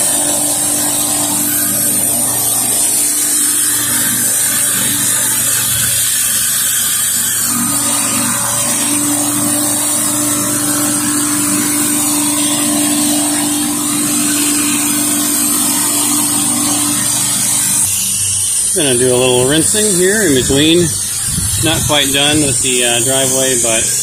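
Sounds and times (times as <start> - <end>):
high-pressure water hiss: 0.0 - 24.0
pressure washer engine running: 0.0 - 24.0
steady hum: 0.0 - 24.0.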